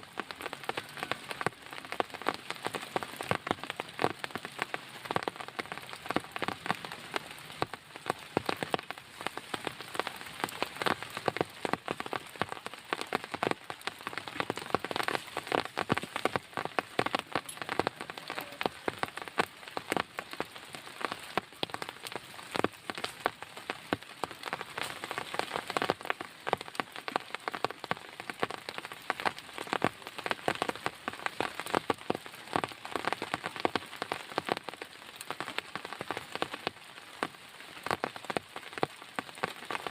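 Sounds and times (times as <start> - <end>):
heavy rain falling: 0.0 - 39.9
raindrops tapping a surface: 0.0 - 39.9.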